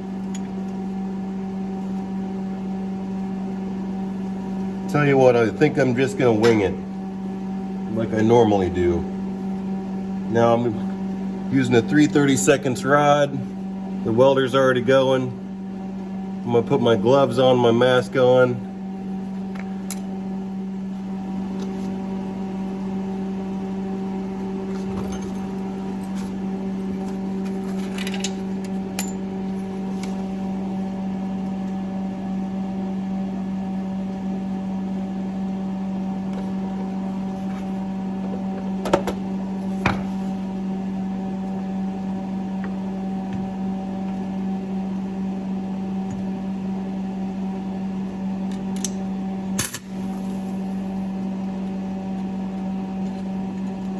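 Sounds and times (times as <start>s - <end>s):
welder electrical hum: 0.0s - 53.9s.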